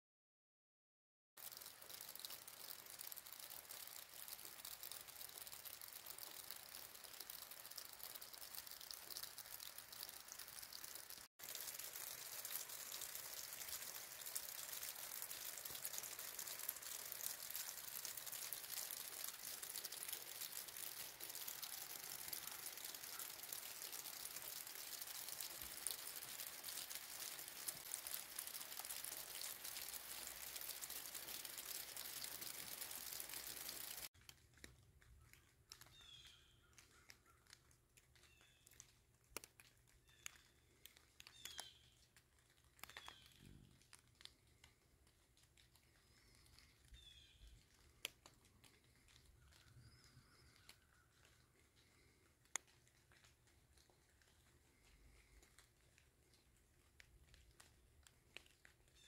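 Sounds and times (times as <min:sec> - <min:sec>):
rain on wet pavement: 0:01.4 - 0:34.7, 0:38.1 - 0:59.0.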